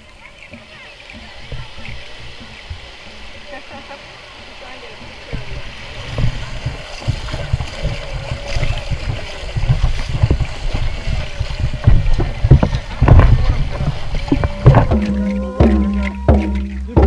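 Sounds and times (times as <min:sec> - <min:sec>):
water splashing and sloshing: 0:00.0 - 0:17.0
water thumping against hull: 0:00.0 - 0:17.0.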